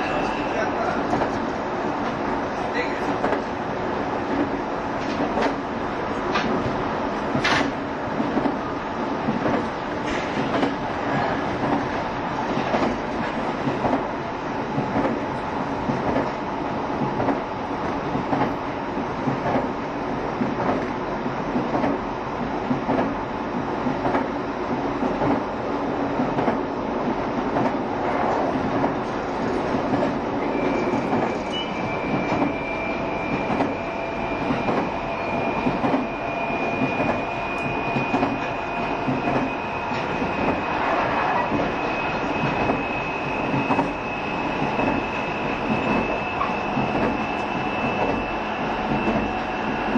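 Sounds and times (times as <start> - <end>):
electric train rumbling: 0.0 - 49.9.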